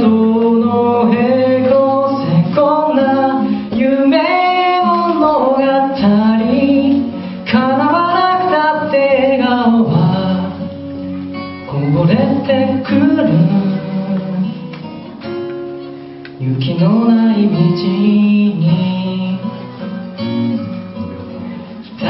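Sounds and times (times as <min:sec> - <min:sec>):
man singing: 0:00.0 - 0:15.0, 0:16.3 - 0:20.6
acoustic guitar strumming: 0:00.0 - 0:22.0.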